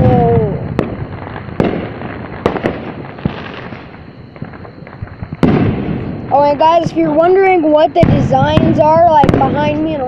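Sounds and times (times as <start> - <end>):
fireworks bangs: 0.0 - 10.0
fireworks crackle and rumble: 0.0 - 10.0.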